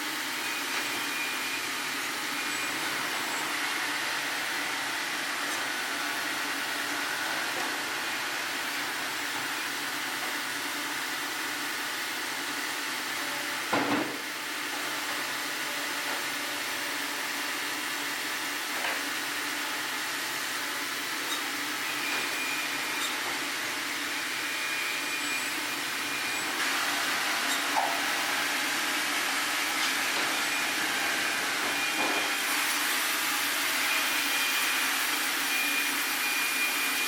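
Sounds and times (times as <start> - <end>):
sawmill sawing log: 0.0 - 12.2, 14.3 - 37.0.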